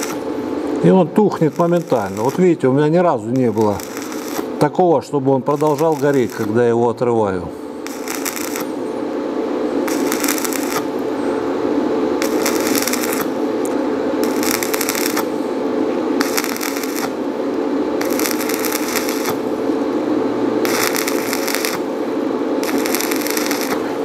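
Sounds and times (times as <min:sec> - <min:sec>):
welding arc crackling: 0:00.0 - 0:06.8, 0:07.8 - 0:24.0
steady low hum: 0:00.0 - 0:24.0.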